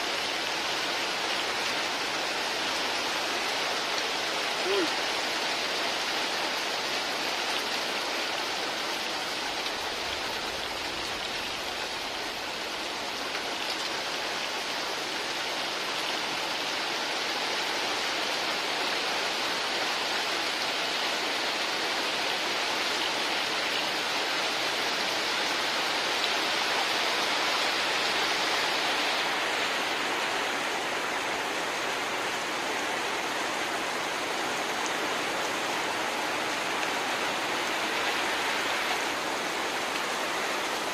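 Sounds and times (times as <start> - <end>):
heavy rain on water: 0.0 - 40.9.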